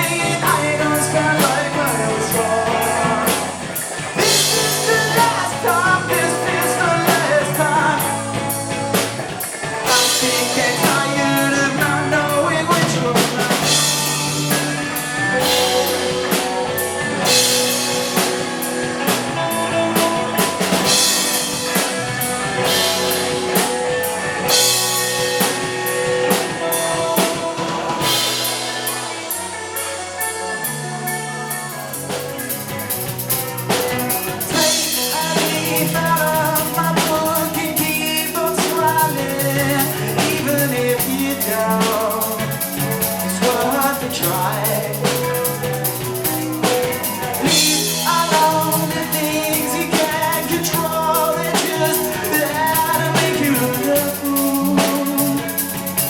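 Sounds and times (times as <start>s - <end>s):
drum kit: 0.0s - 56.0s
rock band playing: 0.0s - 56.0s.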